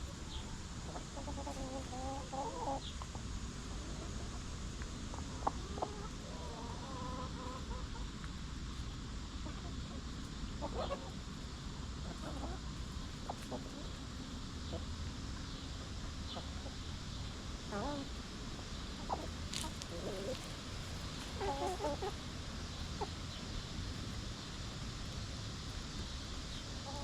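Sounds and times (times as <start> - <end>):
hens clucking: 0.0 - 27.0.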